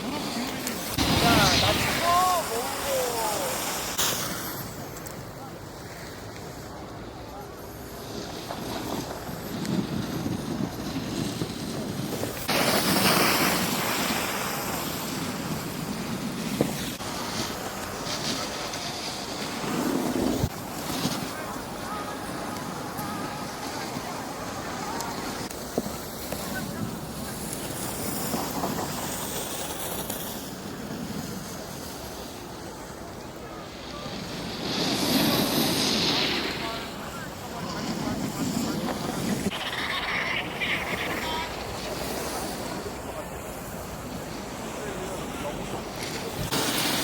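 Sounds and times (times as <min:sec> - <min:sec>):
skis hissing over snow: 0:00.0 - 0:05.2, 0:07.3 - 0:47.0.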